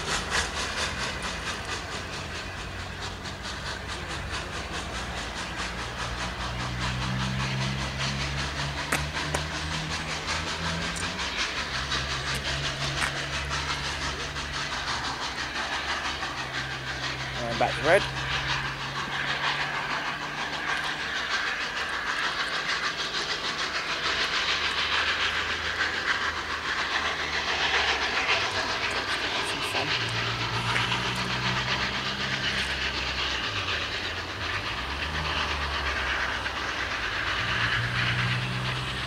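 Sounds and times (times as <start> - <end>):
steam hissing: 0.0 - 39.0
steam locomotive exhaust beats: 0.0 - 39.0
wheels clicking over rail joints: 0.0 - 39.0.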